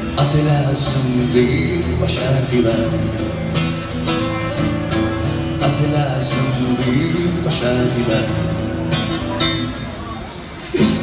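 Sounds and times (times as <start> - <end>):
acoustic guitar through speakers: 0.0 - 11.0.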